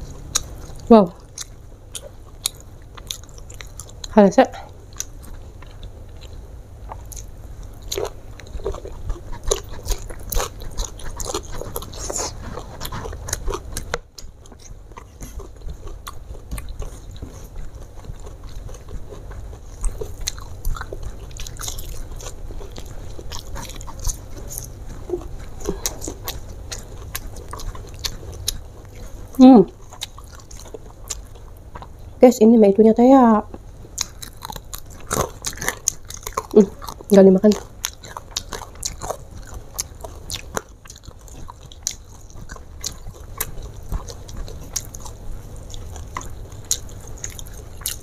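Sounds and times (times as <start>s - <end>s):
chewing and crunching food: 0.0s - 48.0s.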